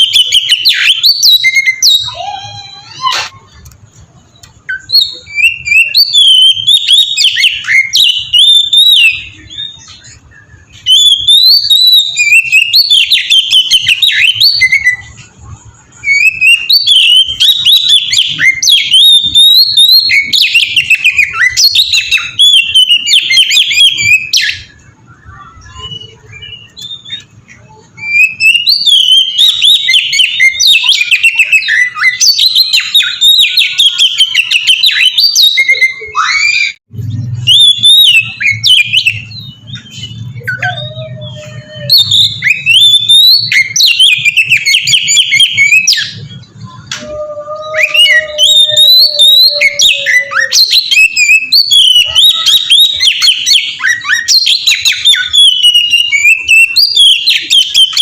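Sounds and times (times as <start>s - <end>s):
bird singing whistled song: 0.0s - 58.0s.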